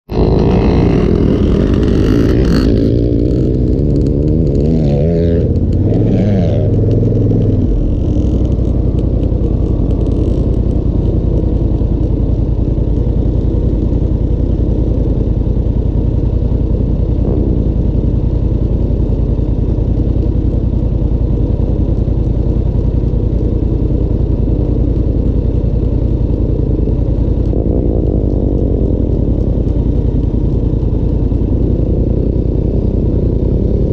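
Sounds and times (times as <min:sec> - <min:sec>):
engine idling nearby: 0:00.1 - 0:33.9
motorcycle engines revving: 0:00.1 - 0:33.9.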